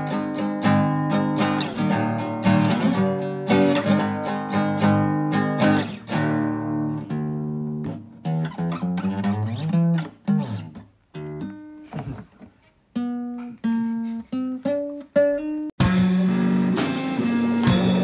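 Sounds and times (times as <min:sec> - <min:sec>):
nylon-string acoustic guitar: 0:00.0 - 0:18.0.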